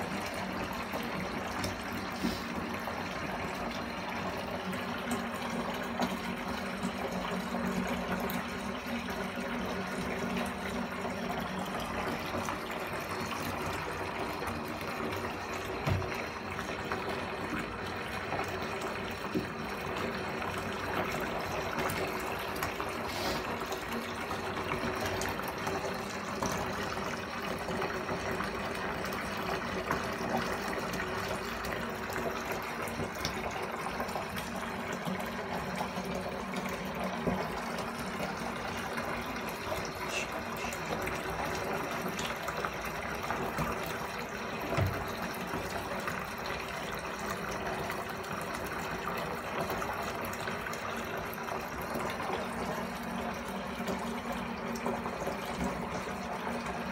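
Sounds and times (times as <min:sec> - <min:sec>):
water running into bathtub: 0:00.0 - 0:56.9.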